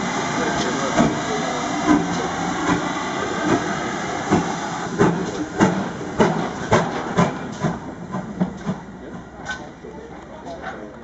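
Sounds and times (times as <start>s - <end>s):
steady hiss of steam: 0.0s - 8.8s
steam locomotive exhaust beats: 0.0s - 10.7s.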